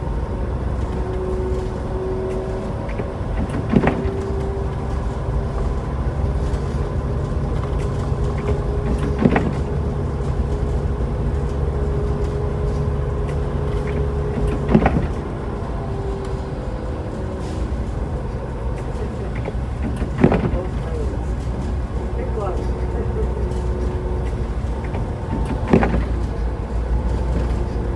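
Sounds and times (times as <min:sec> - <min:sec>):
car road and engine rumble: 0:00.0 - 0:27.9
windshield wiper sweeping: 0:00.8 - 0:27.9.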